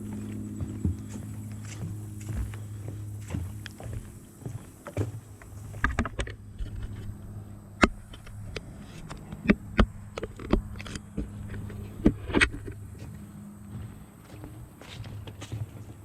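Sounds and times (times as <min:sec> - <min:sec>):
footsteps on footbridge: 0:00.0 - 0:16.0.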